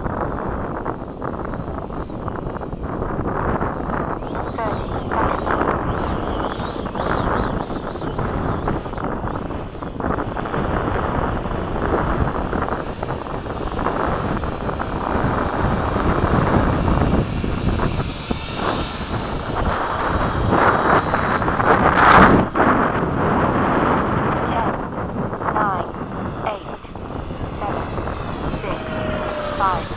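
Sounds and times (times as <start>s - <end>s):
model airplane motor whine: 0.0s - 29.9s
wind buffeting microphone: 0.0s - 29.9s.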